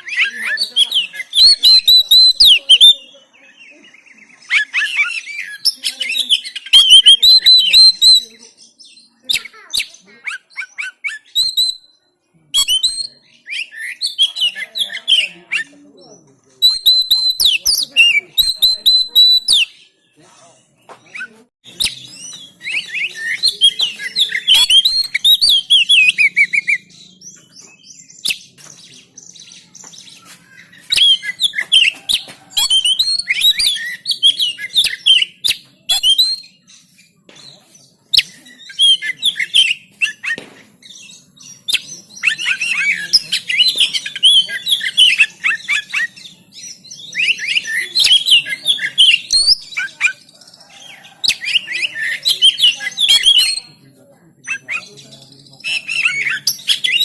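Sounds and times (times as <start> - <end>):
songbird singing fast chirps: 0.0 - 57.0.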